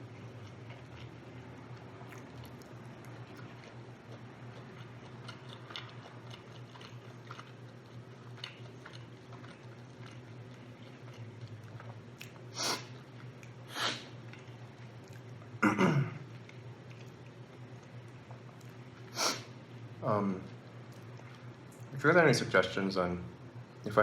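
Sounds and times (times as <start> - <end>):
chewing with wet mouth clicks: 0.1 - 15.6, 16.3 - 19.1, 20.9 - 22.0.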